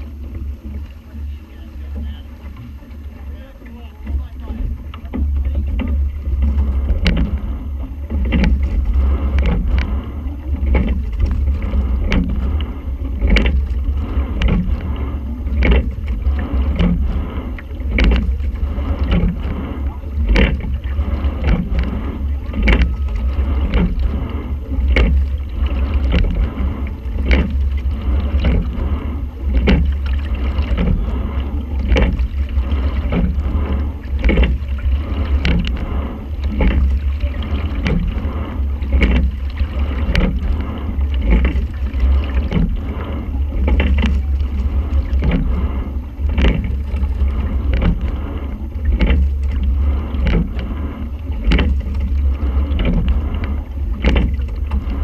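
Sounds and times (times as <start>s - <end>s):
low rumble of water: 0.0s - 55.0s
wind: 0.0s - 55.0s
oars knocking in oarlocks: 1.8s - 55.0s.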